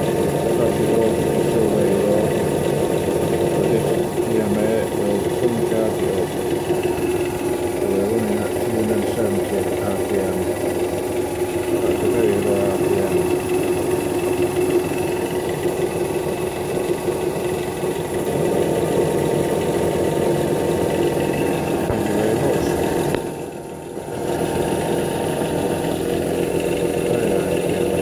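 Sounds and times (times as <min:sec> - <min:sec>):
drill press running: 0:00.0 - 0:28.0.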